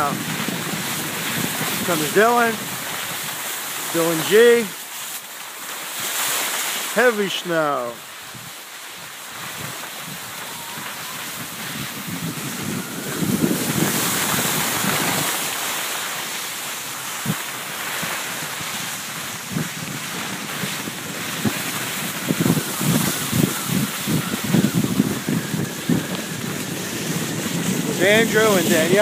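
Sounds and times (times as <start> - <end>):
wind rushing over microphone: 0.0 - 4.8, 7.0 - 29.0
skis sliding on snow: 0.0 - 29.0.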